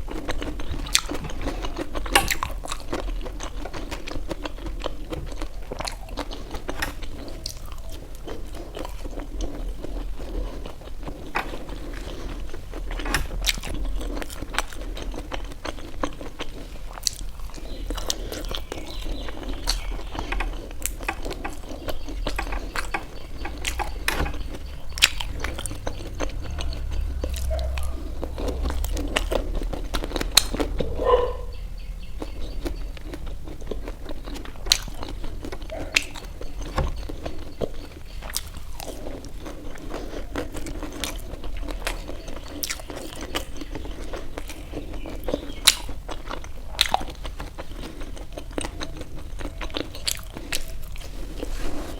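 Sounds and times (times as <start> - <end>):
chewing and biting food: 0.0 - 51.9.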